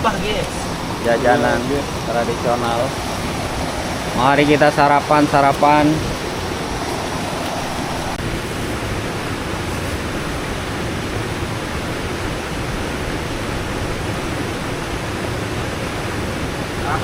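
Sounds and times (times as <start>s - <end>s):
river and waterfall rushing: 0.0s - 17.0s.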